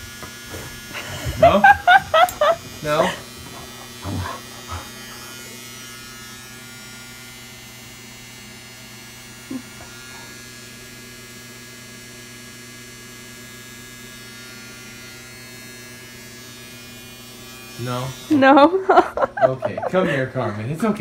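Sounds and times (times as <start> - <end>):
handheld gadget electric hum: 0.0 - 21.0.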